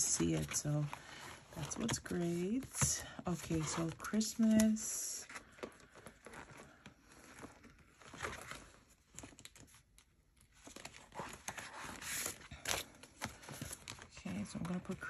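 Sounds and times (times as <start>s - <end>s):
paper and plastic rustling: 0.0s - 15.0s.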